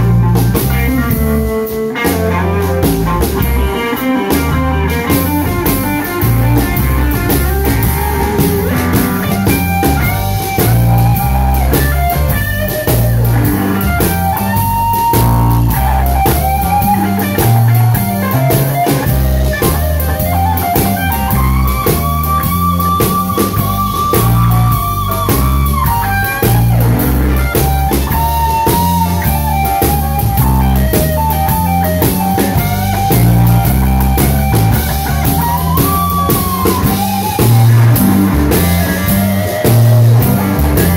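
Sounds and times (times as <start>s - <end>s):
drum kit steady beat: 0.0s - 40.9s
electric guitar solo: 0.0s - 40.9s.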